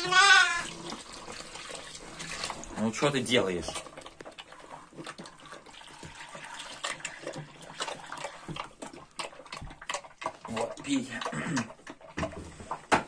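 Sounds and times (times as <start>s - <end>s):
piglets slurping milk: 0.0s - 13.0s.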